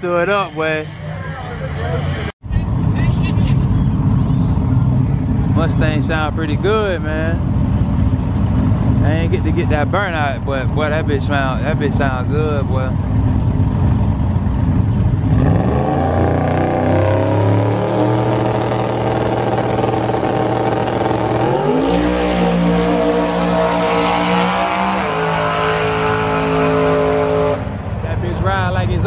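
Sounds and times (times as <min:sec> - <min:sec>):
drag racing car engine revving: 0:00.0 - 0:29.0.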